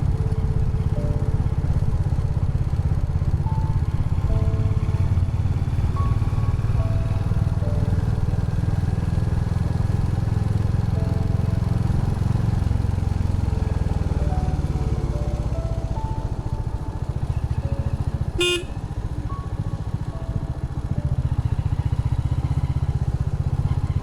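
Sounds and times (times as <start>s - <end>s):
motorcycle engine running: 0.0s - 24.0s
soft melodic music: 0.0s - 24.0s.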